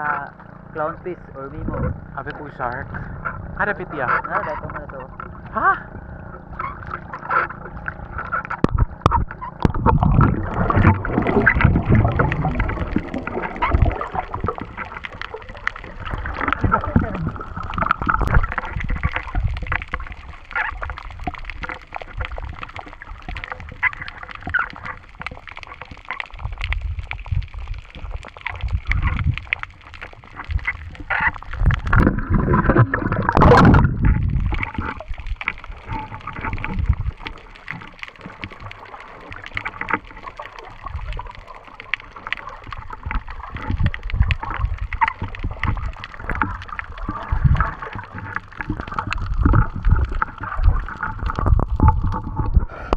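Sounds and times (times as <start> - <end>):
low rumbles: 0.0 - 52.9
water gurgling underwater: 0.0 - 52.9
water splashing: 0.0 - 52.9.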